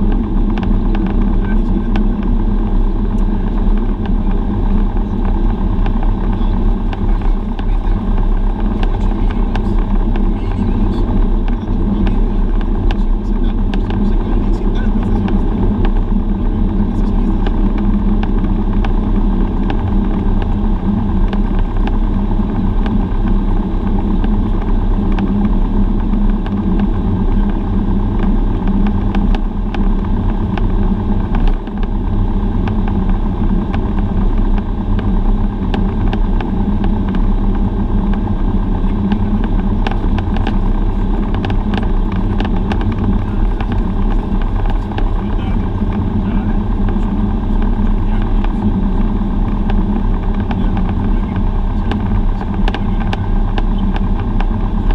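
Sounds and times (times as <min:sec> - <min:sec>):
propeller plane engine drone: 0:00.0 - 0:54.9.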